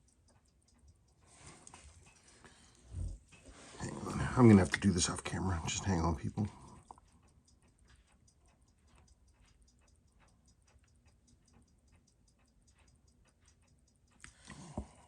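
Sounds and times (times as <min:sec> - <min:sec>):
watch ticking: 0:00.0 - 0:15.0.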